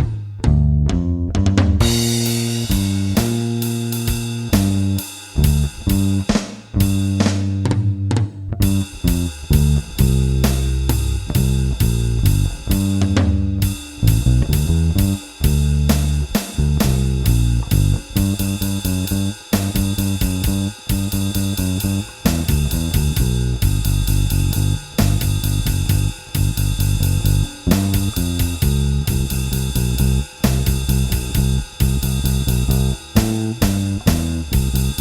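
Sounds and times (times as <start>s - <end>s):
drum kit beat: 0.0s - 35.0s
electric bass line: 0.0s - 35.0s.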